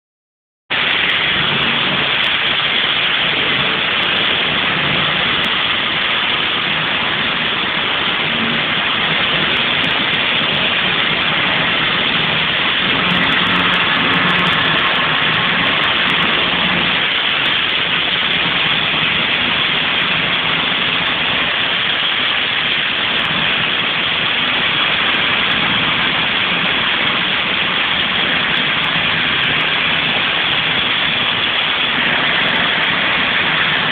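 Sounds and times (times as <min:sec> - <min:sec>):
water jet hissing on steel: 0:00.7 - 0:33.9
low machine hum: 0:00.8 - 0:33.9.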